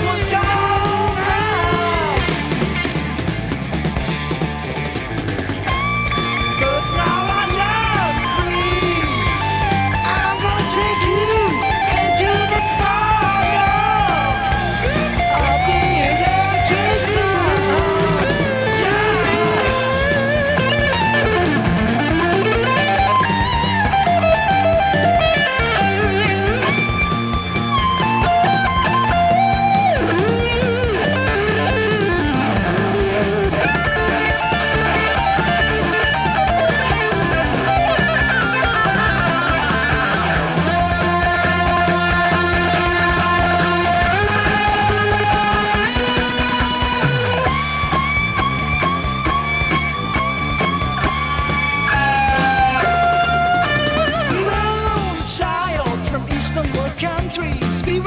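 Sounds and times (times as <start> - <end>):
bass guitar: 0.0 - 58.0
drums: 0.0 - 58.0
electric lead guitar: 0.0 - 58.0.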